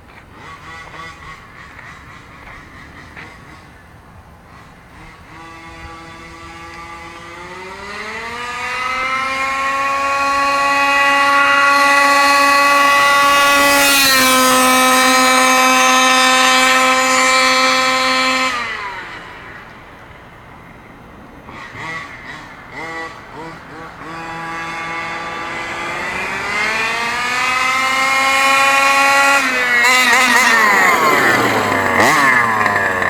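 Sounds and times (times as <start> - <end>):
two-stroke engine whining at full throttle: 0.1 - 33.0.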